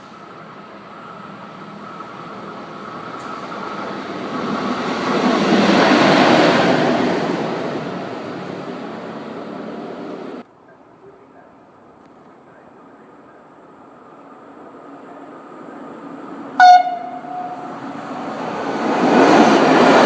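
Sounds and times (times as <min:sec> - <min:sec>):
train passing at speed: 0:00.0 - 0:10.5, 0:12.5 - 0:20.0.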